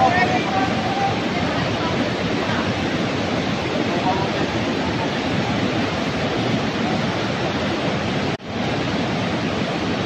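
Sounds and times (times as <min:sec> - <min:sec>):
river rushing over boulders: 0:00.0 - 0:10.0.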